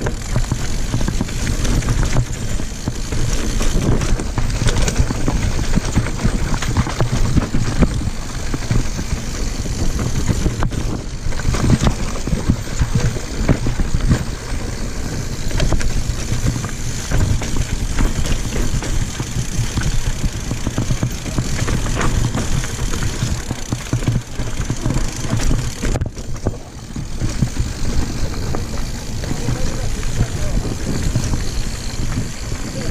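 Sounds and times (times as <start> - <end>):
bike clicks and rattles: 0.0 - 32.9
tyre rumble: 0.0 - 32.9
wind on microphone: 0.0 - 32.9.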